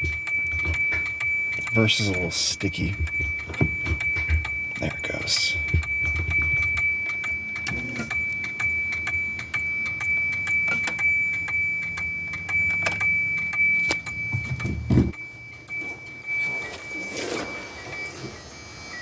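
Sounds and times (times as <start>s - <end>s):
door warning chime ticking: 0.0s - 19.0s
steady high tone: 0.0s - 19.0s.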